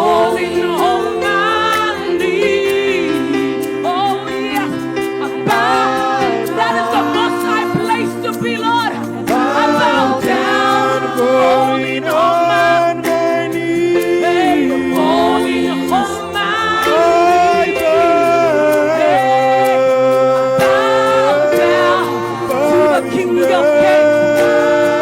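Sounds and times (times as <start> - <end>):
steady held chords: 0.0 - 25.0
sustained worship singing: 0.0 - 25.0.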